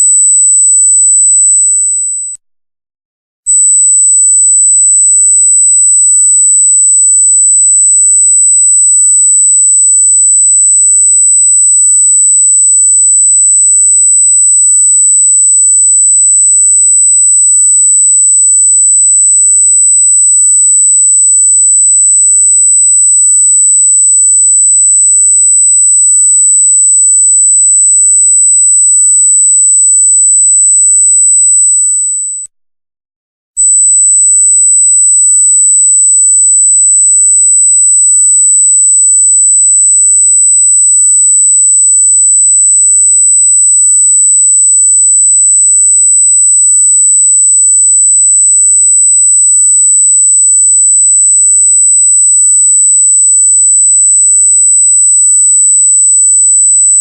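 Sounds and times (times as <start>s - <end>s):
high-pitched electronic sine tone: 0.0s - 2.4s, 3.5s - 32.5s, 33.6s - 57.0s.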